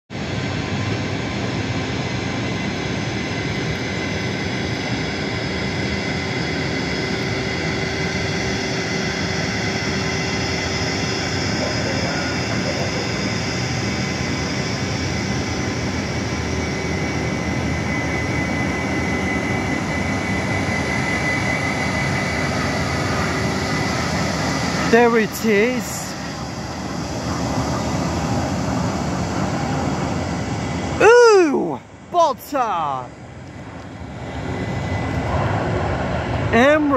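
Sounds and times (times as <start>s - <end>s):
jet aircraft whine: 0.1s - 36.9s.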